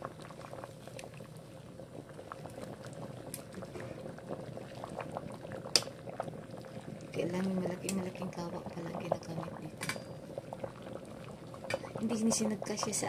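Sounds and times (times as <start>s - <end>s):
broth boiling with pops and gurgles: 0.0s - 13.0s.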